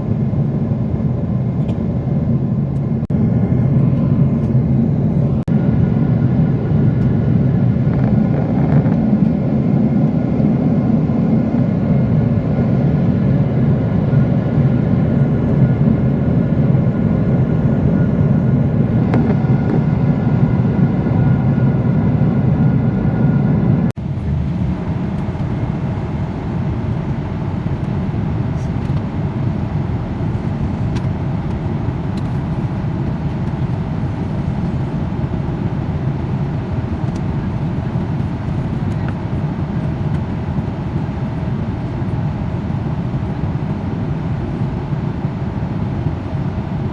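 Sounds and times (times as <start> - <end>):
airliner cabin engine noise: 0.0 - 46.9.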